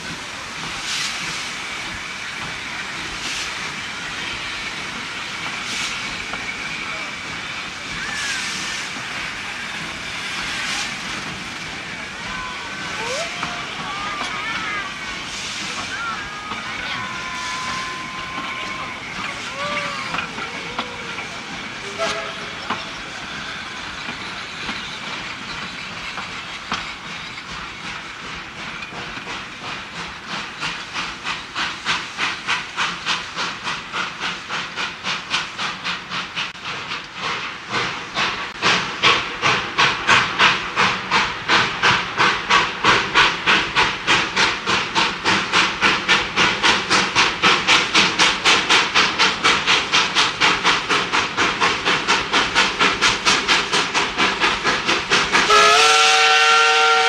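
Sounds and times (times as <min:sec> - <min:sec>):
steam hissing: 0:00.0 - 0:57.0
steam locomotive exhaust beats: 0:00.0 - 0:57.0.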